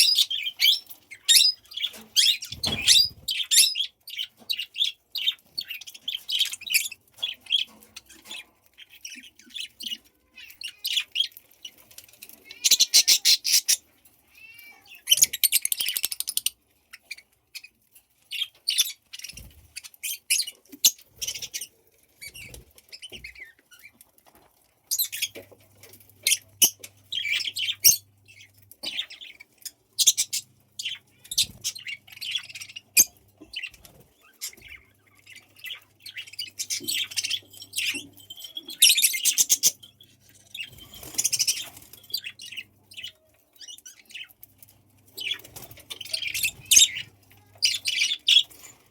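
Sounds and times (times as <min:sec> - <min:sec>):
budgies chirping: 0:00.0 - 0:48.9.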